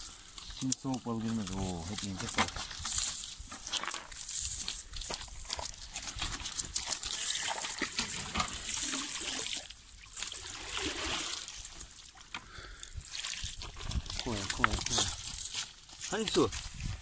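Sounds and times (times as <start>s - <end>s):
net clicking and rustling on pebbles: 0.0s - 10.6s, 13.0s - 17.0s
water trickling and dripping: 0.0s - 17.0s.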